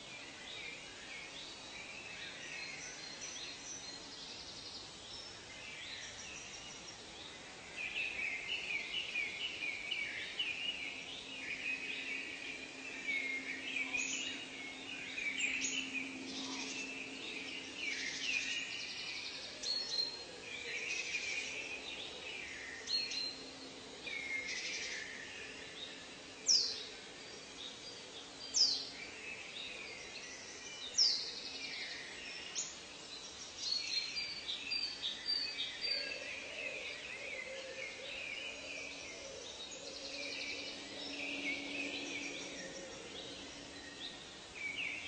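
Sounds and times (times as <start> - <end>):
birds chirping and trilling: 0.0 - 45.0
steady background hiss: 0.0 - 45.0.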